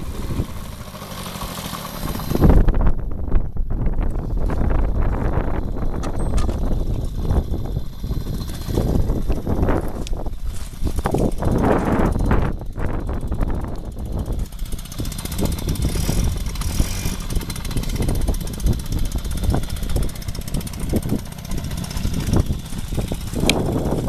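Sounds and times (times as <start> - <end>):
moped engine idling: 0.0 - 2.9, 3.8 - 24.0.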